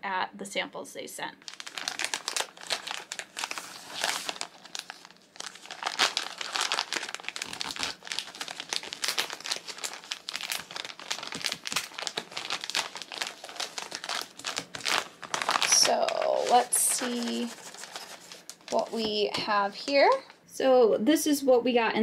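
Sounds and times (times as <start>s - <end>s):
plastic mailer crinkling and tearing: 1.4s - 20.3s.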